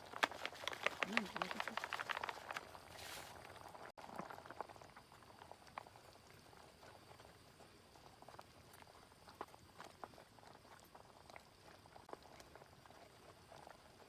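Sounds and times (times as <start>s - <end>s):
food bubbling in a pan: 0.0s - 14.0s.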